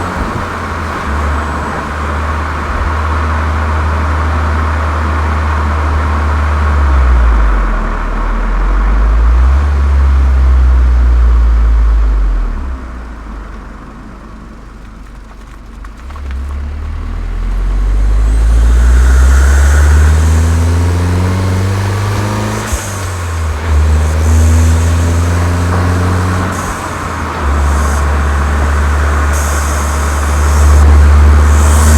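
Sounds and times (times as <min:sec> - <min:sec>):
car engine accelerating: 0:00.0 - 0:31.9.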